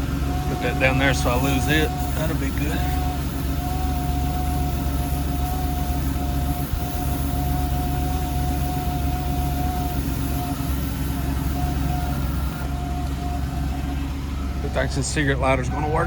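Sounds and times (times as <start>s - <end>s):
constant whine: 0.0s - 16.0s
pickup truck engine idling: 0.0s - 16.0s.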